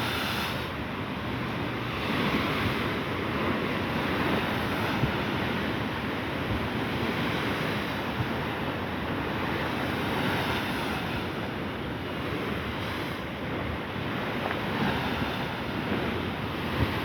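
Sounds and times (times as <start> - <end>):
sea waves breaking on shore: 0.0 - 17.0
wind buffeting microphone: 0.7 - 17.0.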